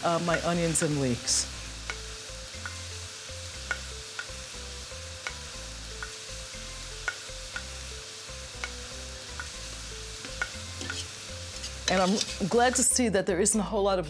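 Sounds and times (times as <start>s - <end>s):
greens sizzling in a pan: 0.0s - 13.6s.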